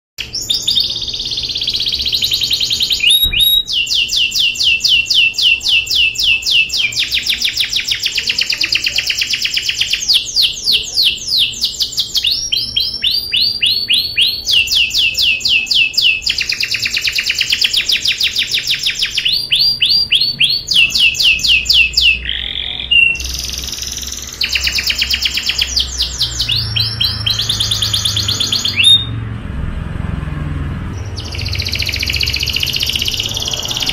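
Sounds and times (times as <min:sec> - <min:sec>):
canary singing rapid trills: 0:00.2 - 0:29.3, 0:30.8 - 0:33.9.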